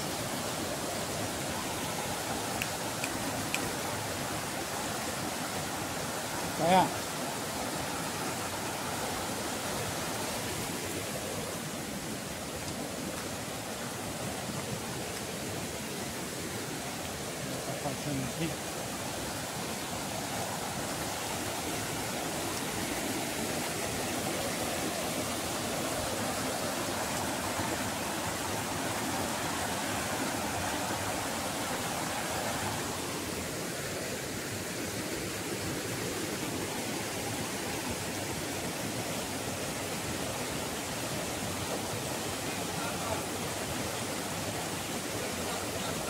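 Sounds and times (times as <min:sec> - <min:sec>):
stream rushing over rocks: 0:00.0 - 0:46.0.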